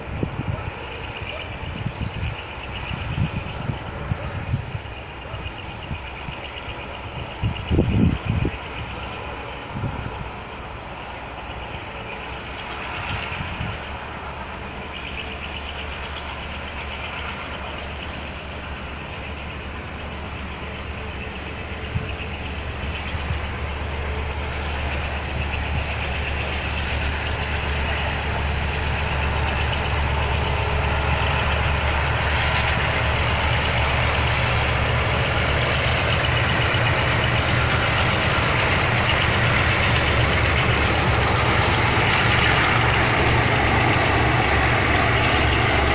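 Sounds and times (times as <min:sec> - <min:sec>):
diesel locomotive engine drone: 0:00.0 - 0:45.9
rushing noise: 0:02.4 - 0:45.9.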